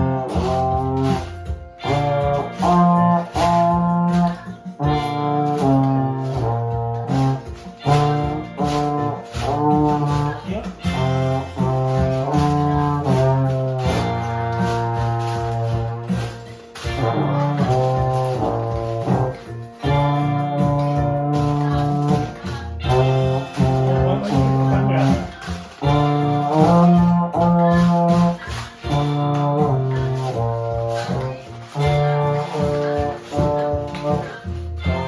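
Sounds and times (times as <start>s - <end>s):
euphonium melody: 0.0s - 35.0s
maraca shaking: 0.0s - 35.0s.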